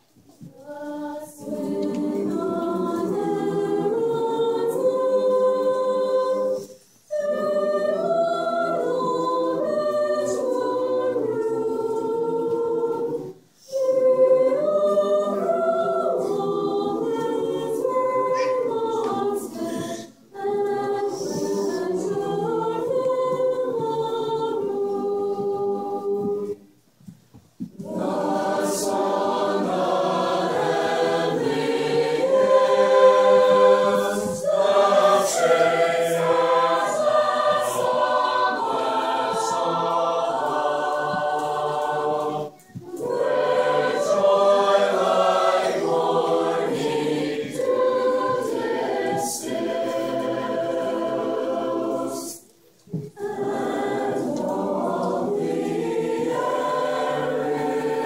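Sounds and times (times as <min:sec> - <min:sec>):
mixed choir singing a hymn: 0:00.0 - 0:26.8, 0:27.6 - 0:58.0.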